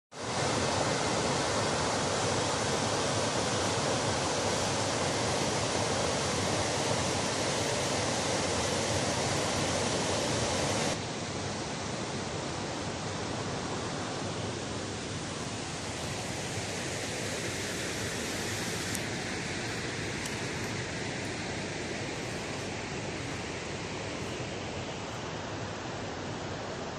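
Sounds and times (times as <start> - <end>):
waterfall roaring: 0.2 - 26.9.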